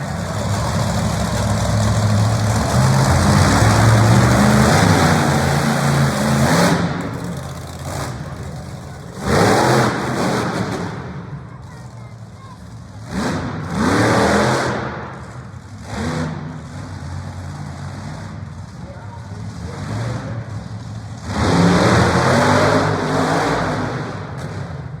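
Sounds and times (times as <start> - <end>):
vehicle engine revving: 0.0 - 11.7, 12.6 - 25.0.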